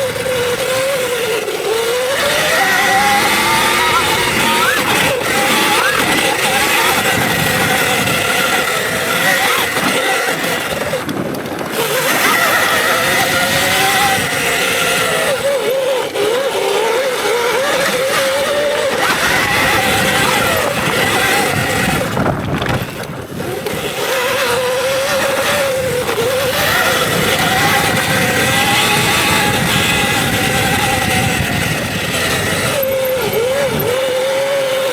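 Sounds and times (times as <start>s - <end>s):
electric motorbike motor whining: 0.0s - 34.9s
heavy wind: 0.0s - 34.9s
tyre noise: 0.1s - 34.9s.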